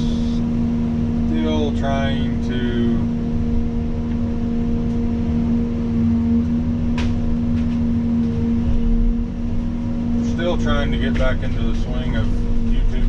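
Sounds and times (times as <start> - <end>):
excavator diesel engine rumble: 0.0 - 13.0.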